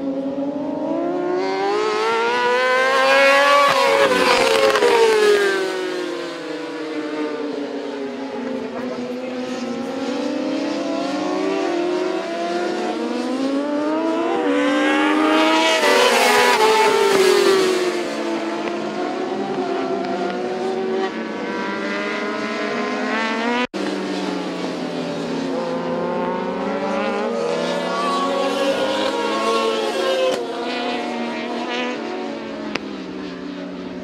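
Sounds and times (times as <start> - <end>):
motorcycle passing close: 0.0 - 34.0
racing motorcycle engines: 0.0 - 34.0.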